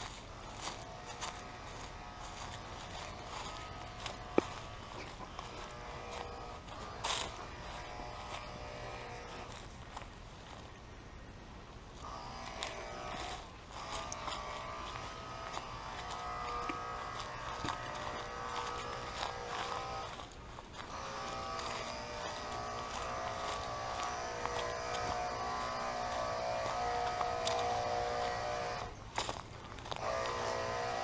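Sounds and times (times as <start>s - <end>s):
buzzing drone: 0.0s - 9.8s, 12.0s - 29.0s, 29.8s - 31.0s
footsteps on a trail: 0.0s - 10.8s, 11.9s - 31.0s.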